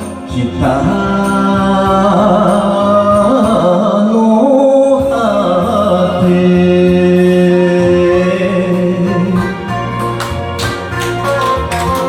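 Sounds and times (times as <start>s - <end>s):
ballad backing track: 0.0s - 12.0s.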